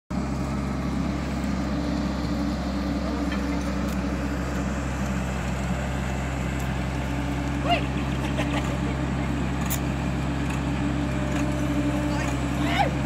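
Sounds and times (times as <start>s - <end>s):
diesel engine droning: 0.1s - 13.0s.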